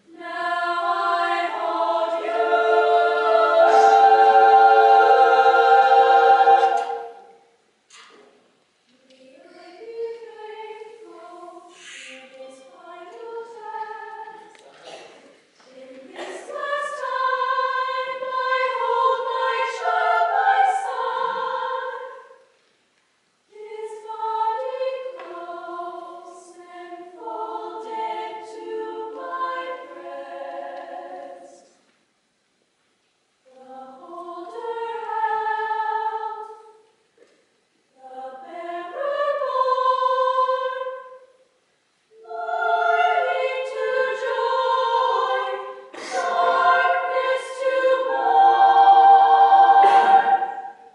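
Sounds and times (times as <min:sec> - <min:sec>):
girls' choir singing: 0:00.0 - 0:07.5, 0:09.1 - 0:22.5, 0:23.5 - 0:31.8, 0:33.5 - 0:36.9, 0:37.9 - 0:41.4, 0:42.1 - 0:50.9.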